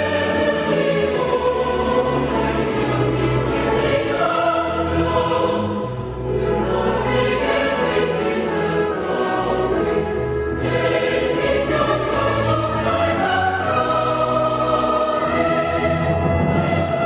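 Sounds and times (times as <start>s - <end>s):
choir singing sustained chords: 0.0s - 17.0s
orchestra low notes: 0.0s - 17.0s.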